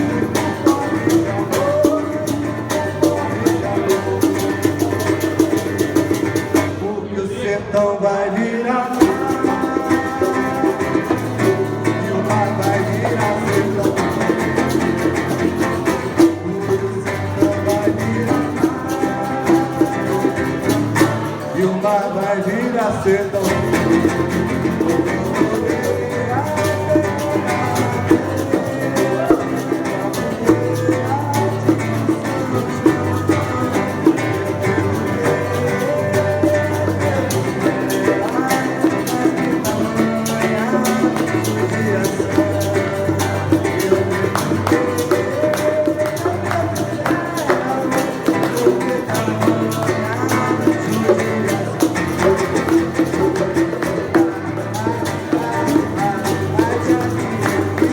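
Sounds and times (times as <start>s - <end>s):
bongo drums: 0.0s - 6.8s, 8.9s - 22.2s, 22.9s - 57.9s
acoustic guitar melody: 0.0s - 57.9s.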